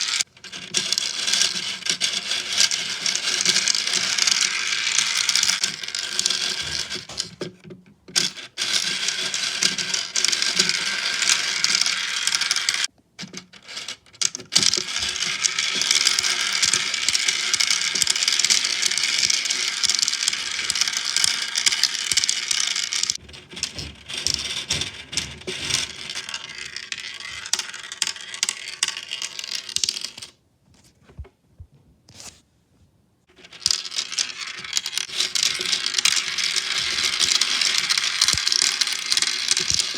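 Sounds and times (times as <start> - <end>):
balls rattling through marble run: 0.0 - 30.4, 33.3 - 39.9.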